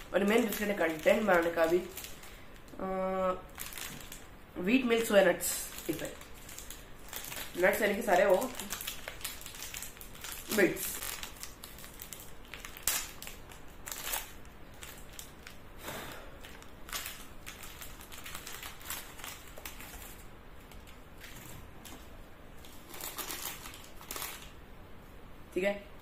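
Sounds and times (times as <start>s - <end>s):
plastic packet crinkling: 0.0s - 15.6s, 16.4s - 24.6s.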